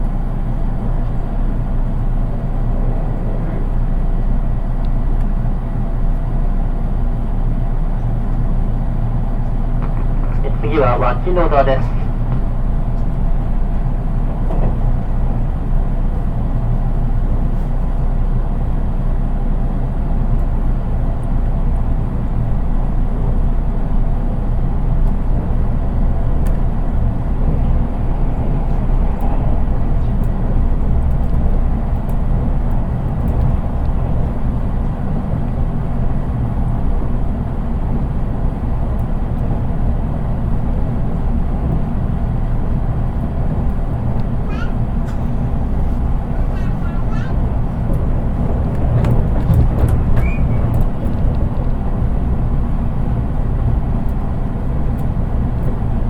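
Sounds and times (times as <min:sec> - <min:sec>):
train car body droning: 0:00.0 - 0:56.0
train wheels rumbling on rails: 0:00.0 - 0:56.0.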